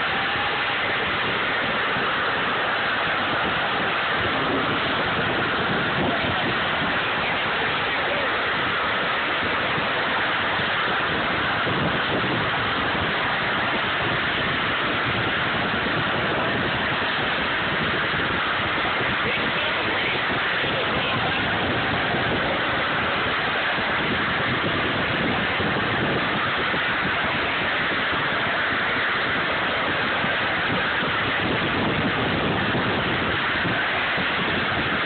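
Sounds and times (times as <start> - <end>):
road and wind noise: 0.0 - 35.0.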